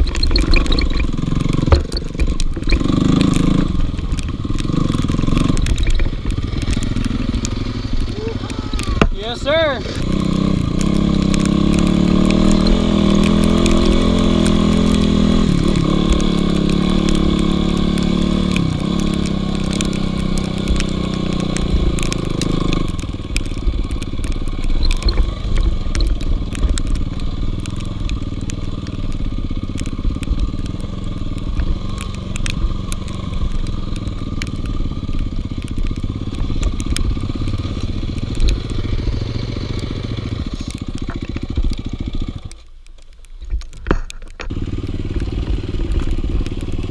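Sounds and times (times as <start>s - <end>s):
dirt bike engine revving: 0.0s - 42.6s.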